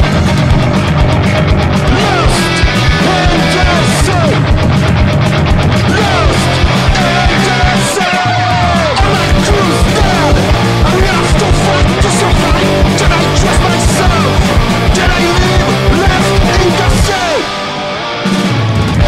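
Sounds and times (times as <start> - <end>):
bass guitar: 0.0 - 19.0
busy drums: 0.0 - 19.0
distorted electric guitar: 0.0 - 19.0.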